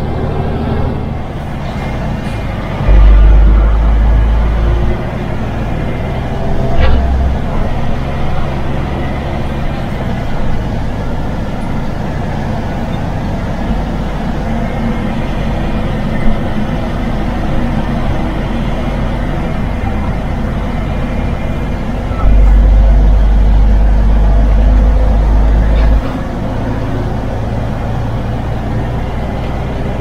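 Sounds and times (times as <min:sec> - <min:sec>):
truck diesel engine running: 0:00.0 - 0:30.0
tyre and road noise: 0:00.0 - 0:30.0.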